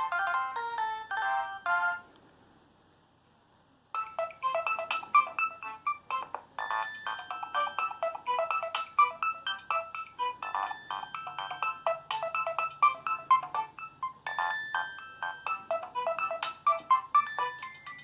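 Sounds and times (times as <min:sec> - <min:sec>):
electronic ringtone melody: 0:00.0 - 0:02.0, 0:04.0 - 0:18.0.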